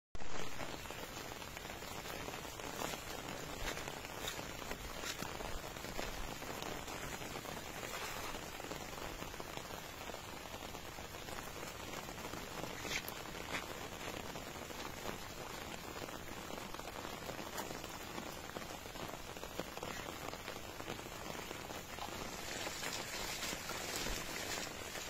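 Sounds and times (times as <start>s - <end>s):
rain falling on water: 0.2s - 25.0s.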